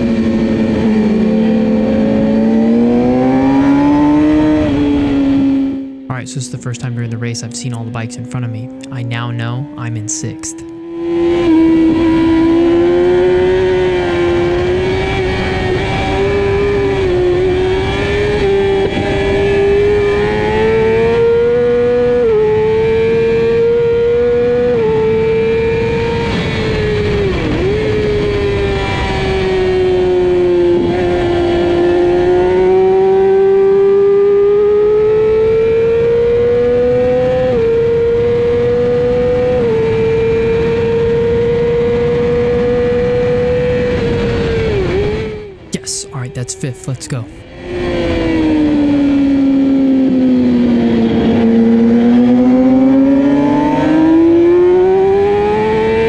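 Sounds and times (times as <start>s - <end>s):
motorcycle engine revving: 0.0s - 6.1s, 9.6s - 45.6s, 47.4s - 56.0s.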